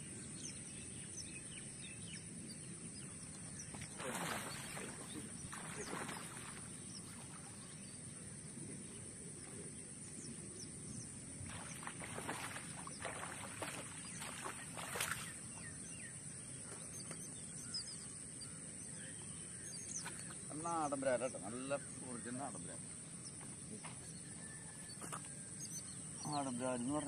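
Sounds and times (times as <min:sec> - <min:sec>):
faint bird chirps: 0:00.0 - 0:27.0.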